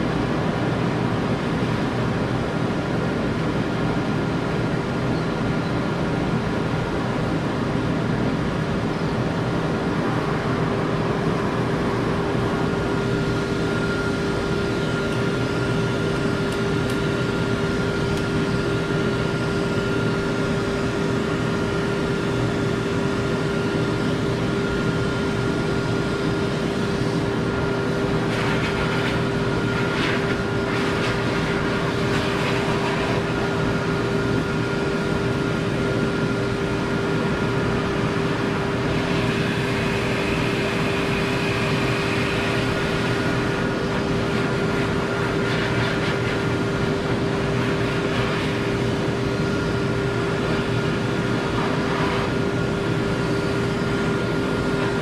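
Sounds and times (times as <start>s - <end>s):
high whine: 0.0s - 55.0s
dog dryer blowing air: 6.0s - 55.0s.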